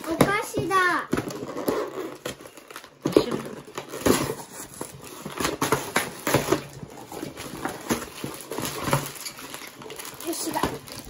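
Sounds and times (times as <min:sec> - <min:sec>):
paper wrapping rustling and tearing: 0:00.0 - 0:11.0.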